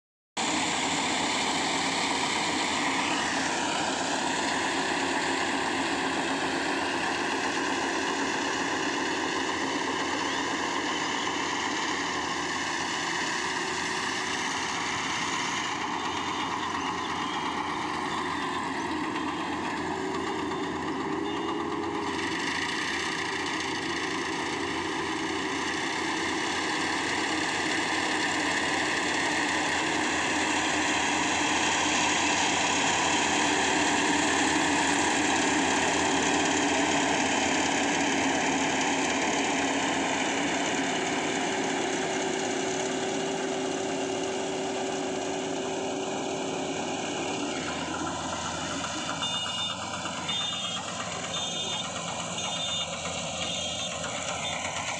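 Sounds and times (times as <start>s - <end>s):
combine harvester running: 0.4s - 54.9s.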